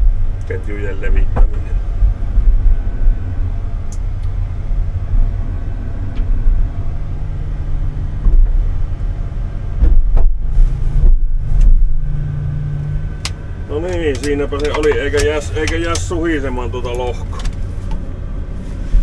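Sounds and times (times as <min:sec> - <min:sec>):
hydraulic hum: 0:00.0 - 0:19.0
truck engine rumbling: 0:00.0 - 0:19.0.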